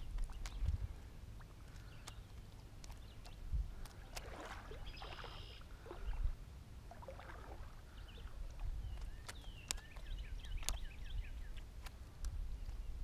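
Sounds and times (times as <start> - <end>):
footsteps wading through water: 0.0 - 13.0
low steady rumble: 0.0 - 13.0.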